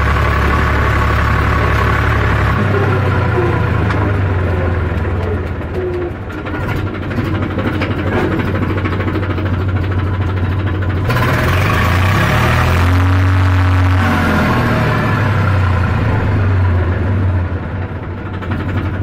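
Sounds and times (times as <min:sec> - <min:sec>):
tractor engine humming: 0:00.0 - 0:19.0.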